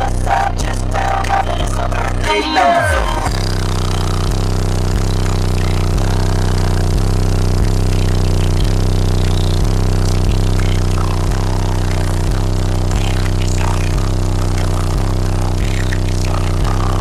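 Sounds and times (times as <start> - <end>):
subwoofers playing deep bass: 0.0 - 17.0.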